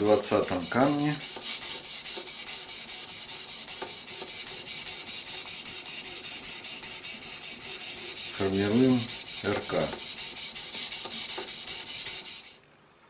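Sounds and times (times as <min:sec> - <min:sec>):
sharpening stone rasping on knife: 0:01.1 - 0:12.6.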